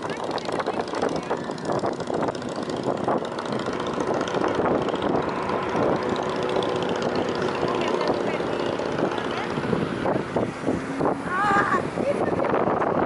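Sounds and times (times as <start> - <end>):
distant rocket engine roar: 0.0 - 13.0.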